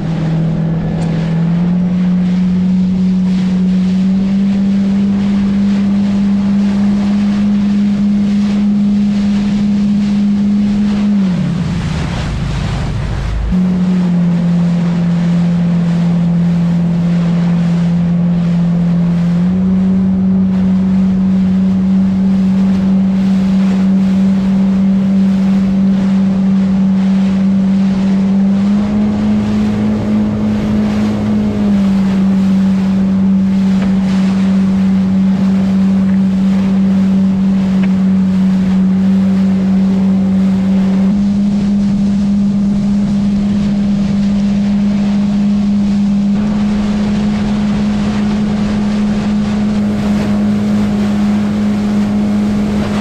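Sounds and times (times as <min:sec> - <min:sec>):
jet ski engine running: 0:00.0 - 0:53.0
rushing wake and spray: 0:00.0 - 0:53.0
wind on microphone: 0:00.0 - 0:53.0.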